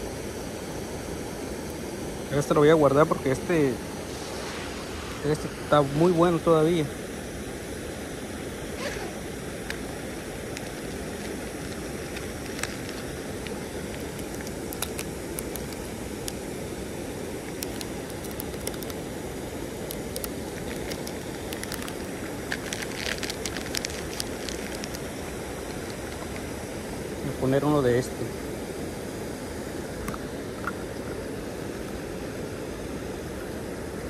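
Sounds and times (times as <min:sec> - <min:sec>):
creek water running over rocks: 0:00.0 - 0:34.0.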